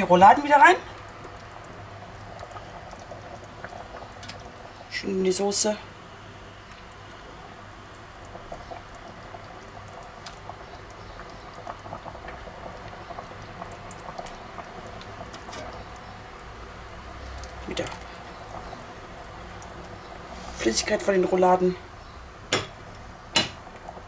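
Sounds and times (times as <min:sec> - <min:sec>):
sauce simmering and bubbling: 0:00.0 - 0:24.0.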